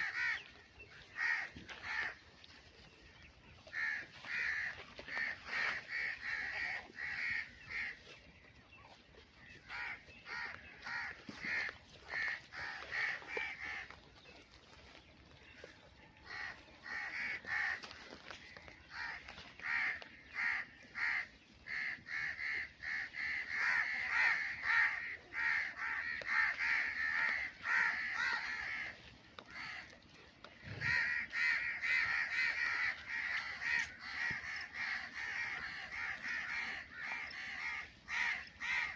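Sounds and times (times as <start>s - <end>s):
crows cawing: 0.0s - 2.2s, 3.7s - 8.0s, 9.6s - 14.0s, 16.2s - 38.9s.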